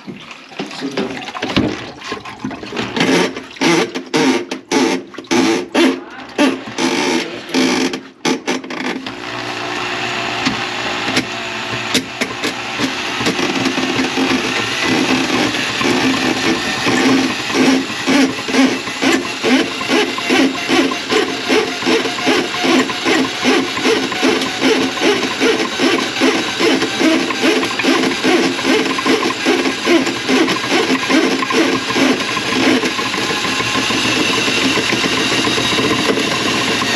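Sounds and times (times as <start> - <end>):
drain cleaning machine motor: 0.0 - 36.9.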